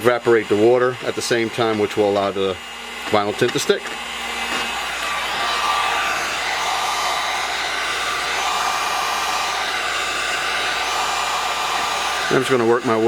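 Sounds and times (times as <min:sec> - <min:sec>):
heat gun blowing hot air: 0:00.0 - 0:13.0.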